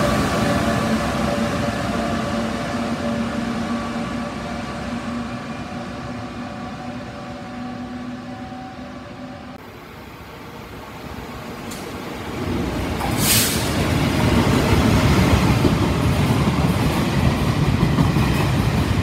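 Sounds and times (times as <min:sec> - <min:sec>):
train running with steady hum: 0:00.0 - 0:19.0.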